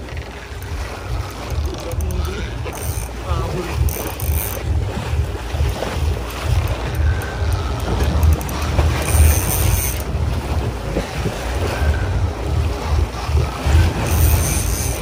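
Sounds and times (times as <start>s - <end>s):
water washing: 0.0s - 15.0s
wind buffeting microphone: 0.0s - 15.0s.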